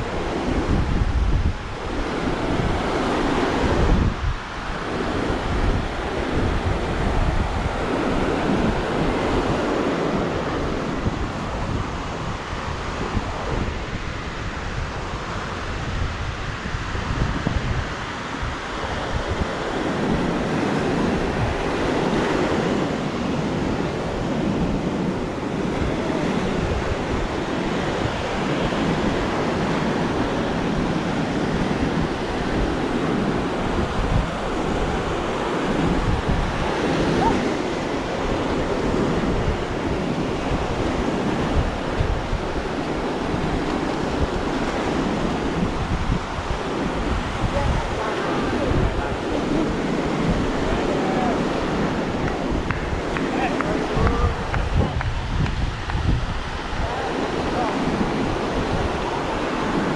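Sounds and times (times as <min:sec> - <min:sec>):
surf washing onto beach: 0:00.0 - 0:59.9
wind buffeting microphone: 0:00.0 - 0:59.9.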